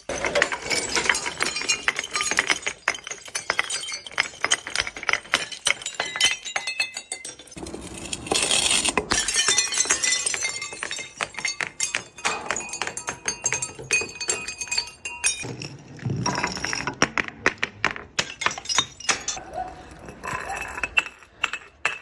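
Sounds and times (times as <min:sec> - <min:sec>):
glass shards clinking: 0:00.0 - 0:17.0, 0:18.2 - 0:22.0
glass bottles breaking: 0:00.0 - 0:22.0.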